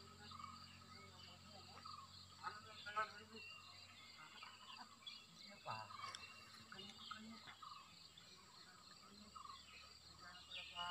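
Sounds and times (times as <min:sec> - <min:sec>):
faint bird chirps: 0:00.0 - 0:10.9
faint distant voices: 0:00.0 - 0:10.9
high insect drone: 0:00.0 - 0:10.9.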